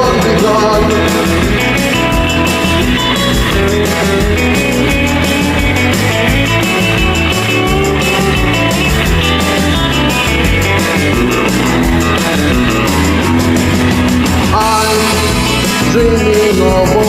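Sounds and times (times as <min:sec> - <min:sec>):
rock band instrumental: 0:00.0 - 0:17.0.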